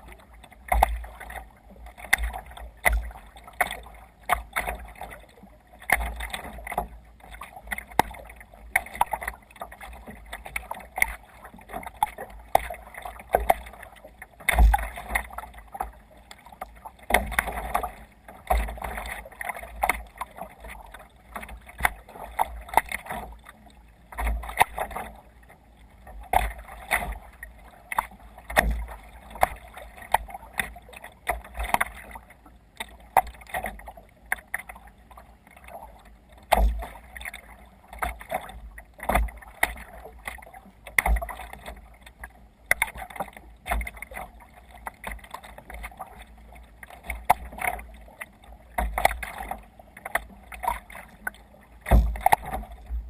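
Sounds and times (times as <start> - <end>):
water splashing against kayak hull: 0.0 - 53.0.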